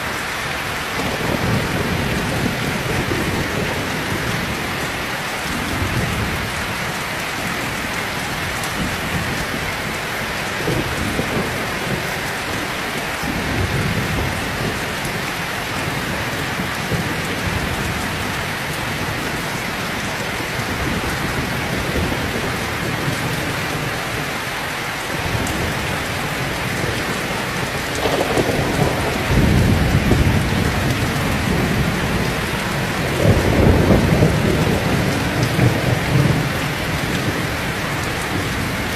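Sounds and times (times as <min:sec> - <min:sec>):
heavy rain falling: 0:00.0 - 0:38.9
thunder rumbling: 0:00.9 - 0:24.3, 0:25.1 - 0:38.9.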